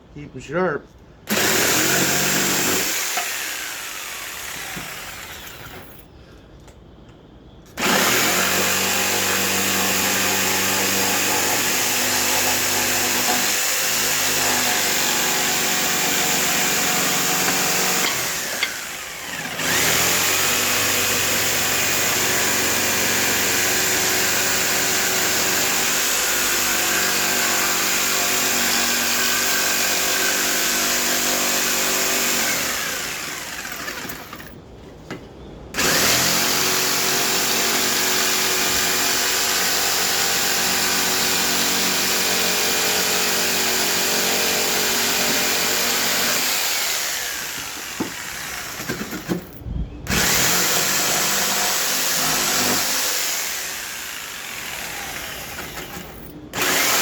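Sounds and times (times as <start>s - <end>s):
electric saw motor running: 1.3s - 5.8s, 7.8s - 34.3s, 35.8s - 48.9s, 50.1s - 56.0s, 56.6s - 57.0s.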